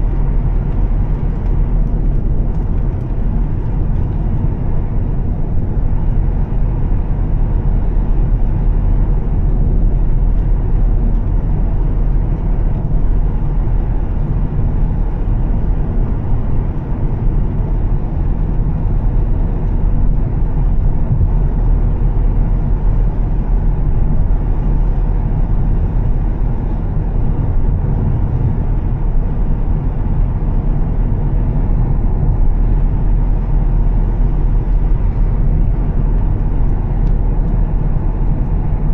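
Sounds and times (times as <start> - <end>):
car engine cruising: 0.0 - 38.9.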